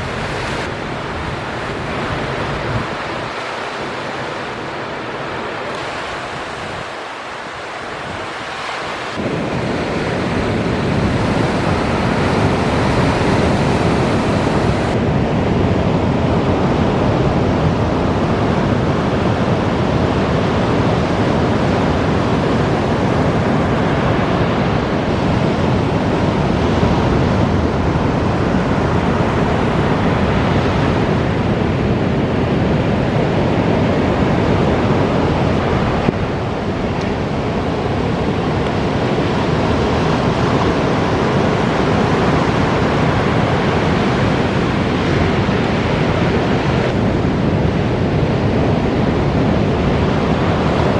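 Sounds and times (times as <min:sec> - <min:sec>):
ocean surf breaking: 0:00.0 - 0:50.9
wind on microphone: 0:00.0 - 0:50.9.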